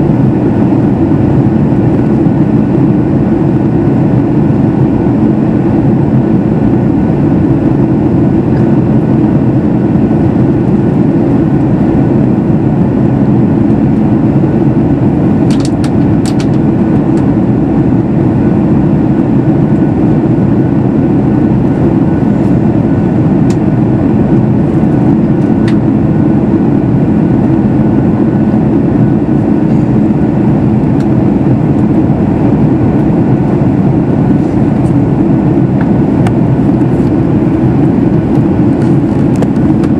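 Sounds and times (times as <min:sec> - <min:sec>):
airflow rushing over fuselage: 0:00.0 - 0:39.9
low hum of jet engines: 0:00.0 - 0:39.9.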